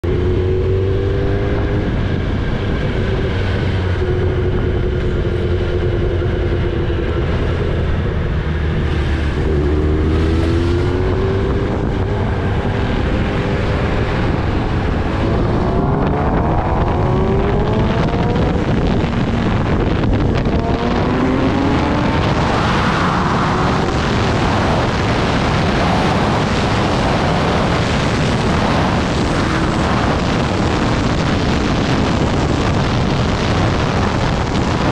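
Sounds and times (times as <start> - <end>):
motorcycle engine accelerating: 0.0 - 34.9
wind rushing over microphone: 0.0 - 34.9.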